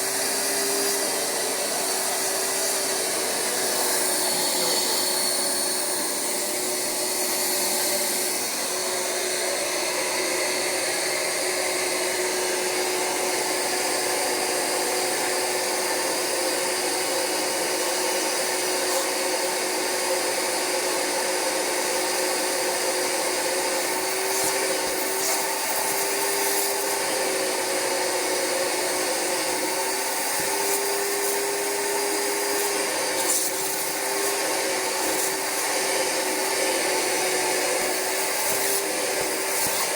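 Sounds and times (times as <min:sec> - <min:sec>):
carpet cleaner vacuum whining: 0:00.0 - 0:39.9.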